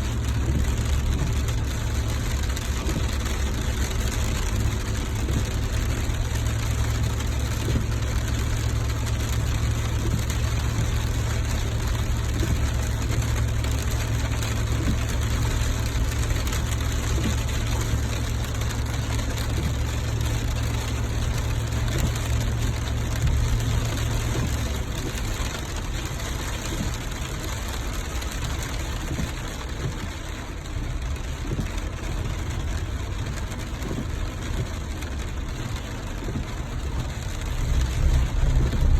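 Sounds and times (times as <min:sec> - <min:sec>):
rain hissing: 0:00.0 - 0:38.9
vehicle engine rumble: 0:00.0 - 0:38.9.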